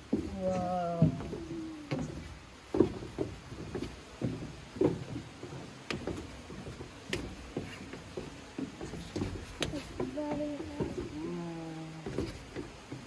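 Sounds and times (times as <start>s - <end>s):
footsteps on wooden stairs: 0.0s - 13.0s.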